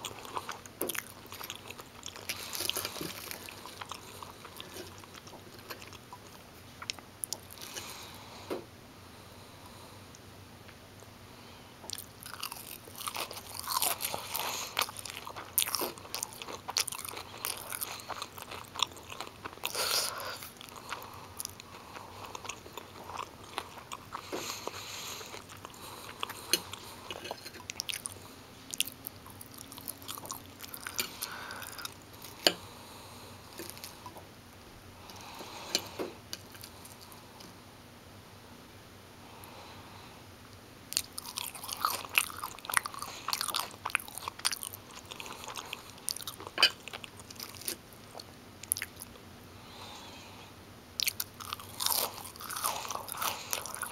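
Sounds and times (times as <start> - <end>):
crunchy chewing: 0.0 - 8.2, 11.9 - 34.3, 35.0 - 37.3, 40.9 - 49.2, 51.0 - 53.9.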